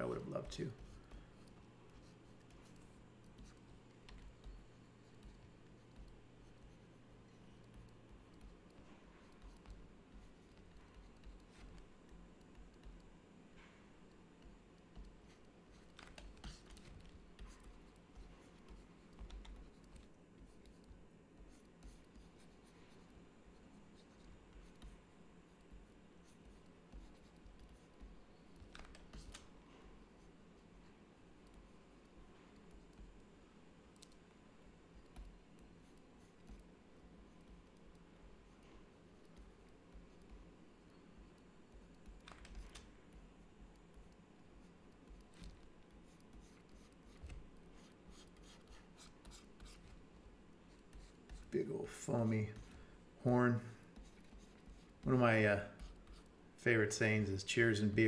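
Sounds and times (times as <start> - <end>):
stylus scratching on tablet: 0.0 - 57.3
low room hum: 0.0 - 58.0.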